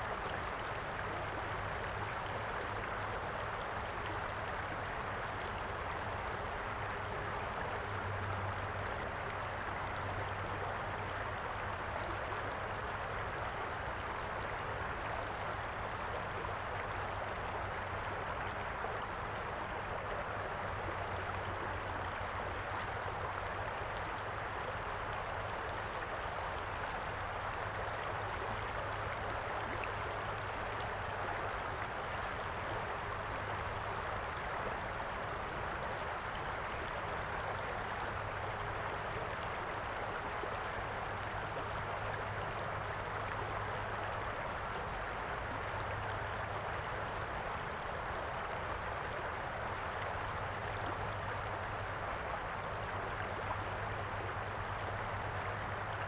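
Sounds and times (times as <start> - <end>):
river water babbling over stones: 0.0 - 56.0.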